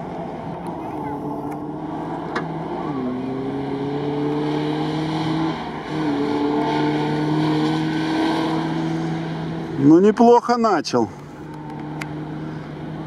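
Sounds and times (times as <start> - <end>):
off-road vehicle engine revving: 0.0 - 10.2, 11.4 - 13.0.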